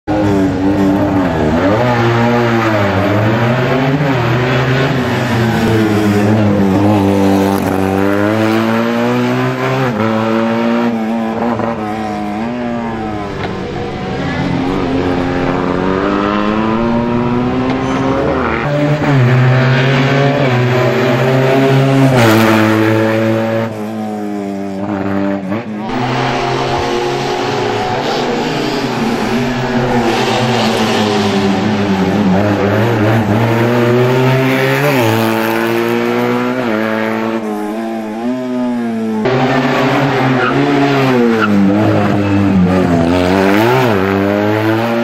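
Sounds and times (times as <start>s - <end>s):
race car engine revving: 0.1s - 45.0s.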